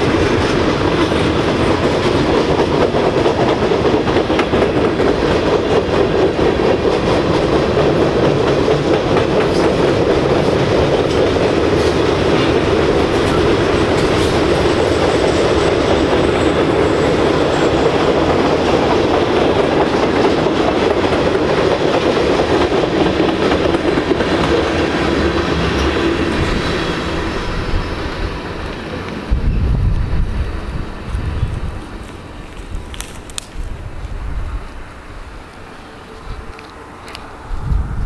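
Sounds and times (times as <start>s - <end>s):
freight train wheels clattering on rail: 0.0s - 34.8s
wind buffeting microphone: 0.0s - 35.4s, 37.2s - 38.0s.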